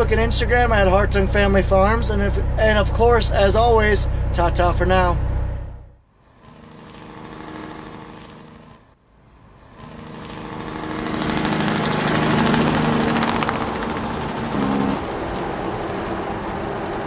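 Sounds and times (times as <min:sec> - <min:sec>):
tractor engine running: 0:00.0 - 0:08.9, 0:09.8 - 0:17.0.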